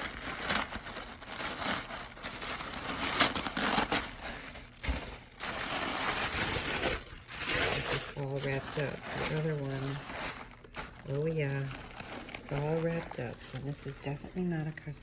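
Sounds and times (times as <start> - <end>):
packing material crinkling: 0.0 - 15.0.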